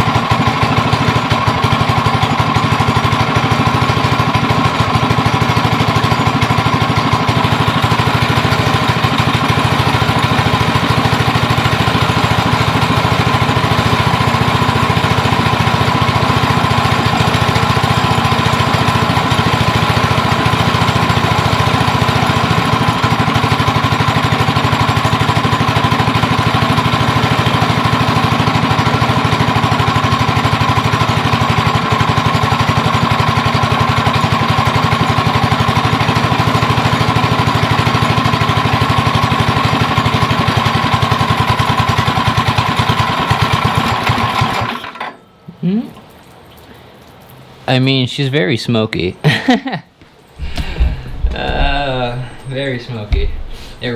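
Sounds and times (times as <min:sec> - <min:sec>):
go-kart engine running: 0:00.0 - 0:45.2, 0:50.4 - 0:53.9.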